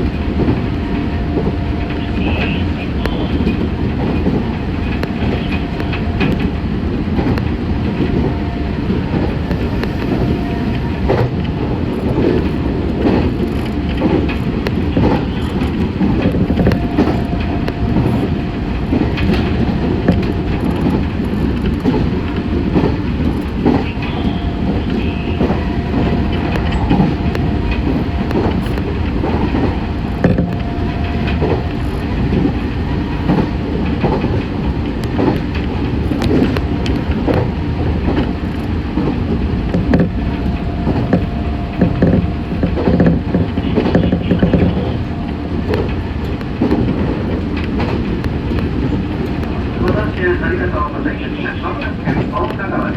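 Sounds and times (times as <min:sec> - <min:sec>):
train rumble from on board: 0:00.0 - 0:52.9
wheels clicking over rails: 0:01.3 - 0:50.2.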